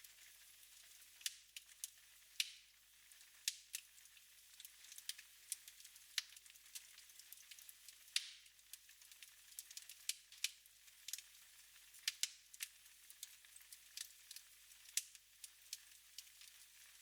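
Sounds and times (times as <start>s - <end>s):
wood fire crackling: 0.1s - 17.0s.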